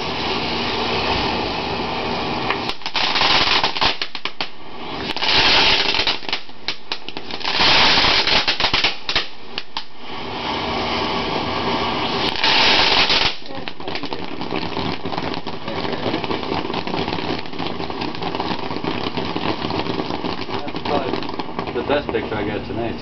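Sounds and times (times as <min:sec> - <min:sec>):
fireworks crackling pops: 0:00.0 - 0:22.6
fireworks hissing: 0:00.0 - 0:23.0.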